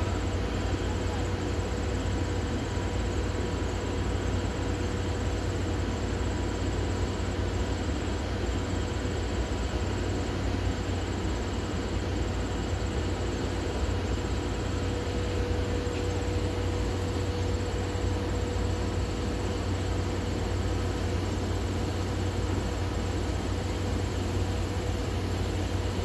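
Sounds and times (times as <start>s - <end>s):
steam locomotive rumble and hiss: 0.0s - 26.0s.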